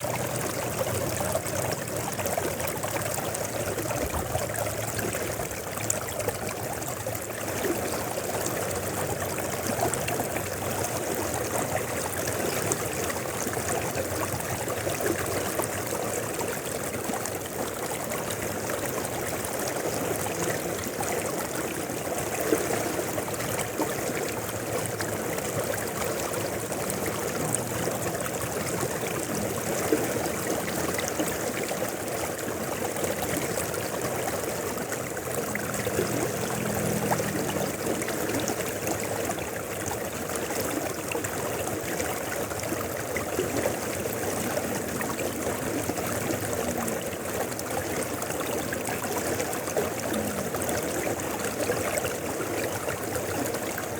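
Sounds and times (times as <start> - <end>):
river flowing over rocks: 0.0 - 53.9.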